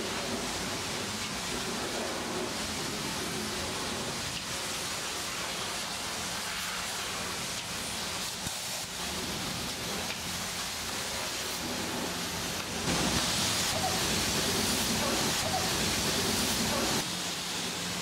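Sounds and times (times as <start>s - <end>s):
pressure washer spray hissing: 0.0s - 18.0s.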